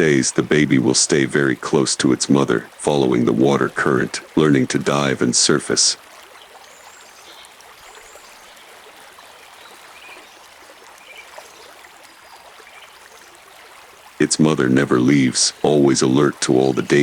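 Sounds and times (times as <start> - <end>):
gently running water: 0.0 - 17.0.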